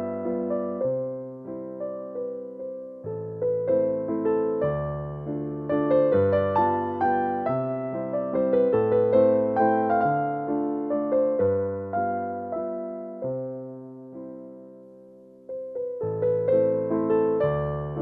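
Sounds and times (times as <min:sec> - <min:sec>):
soft electric piano chords: 0:00.0 - 0:18.0.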